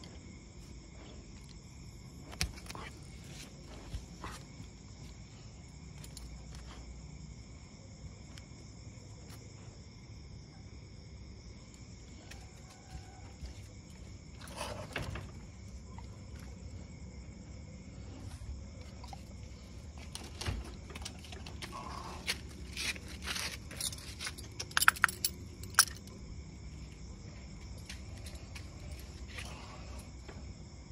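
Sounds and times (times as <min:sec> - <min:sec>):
cricket chorus chirping: 0:00.0 - 0:30.9.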